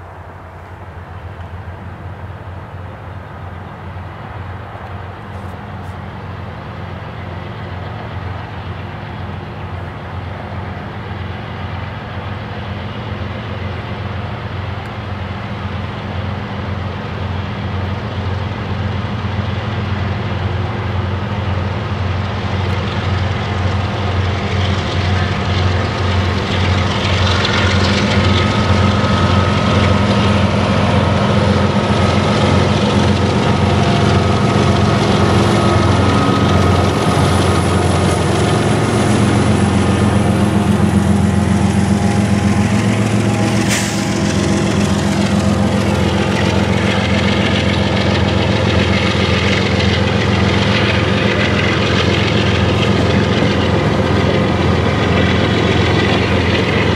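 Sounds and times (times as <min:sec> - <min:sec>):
locomotive engine throb: 0:00.0 - 0:56.9
wheel and rail hiss: 0:00.0 - 0:56.9.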